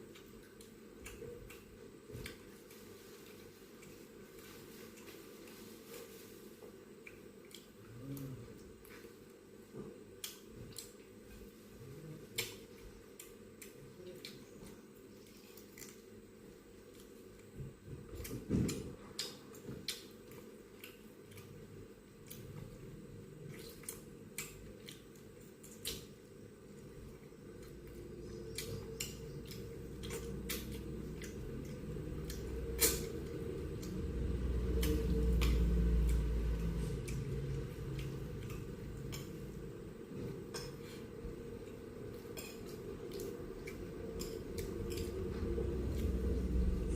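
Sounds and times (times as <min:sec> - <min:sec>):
soft chewing: 0:00.0 - 0:46.9.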